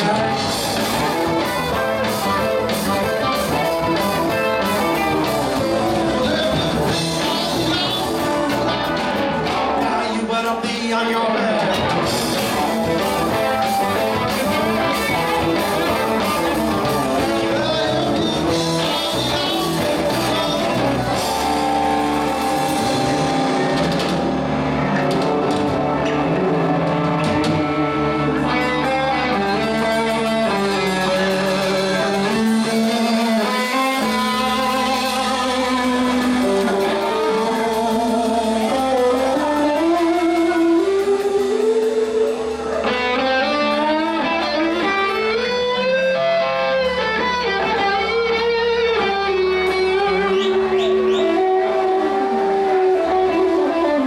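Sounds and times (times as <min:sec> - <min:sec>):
bass: 0:00.0 - 0:54.0
drums: 0:00.0 - 0:54.0
electric guitar lead bending notes: 0:00.0 - 0:54.0
rhythm guitar: 0:00.0 - 0:54.0.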